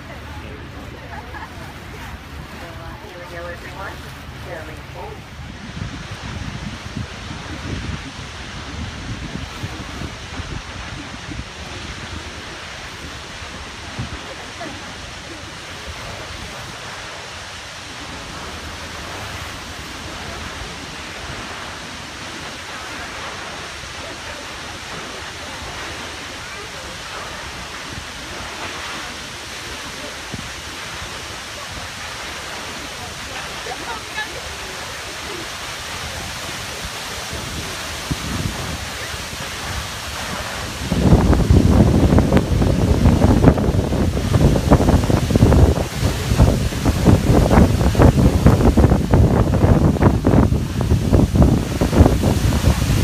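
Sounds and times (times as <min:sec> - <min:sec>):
waterfall rushing: 0:00.0 - 0:53.0
wind buffeting microphone: 0:00.0 - 0:53.0.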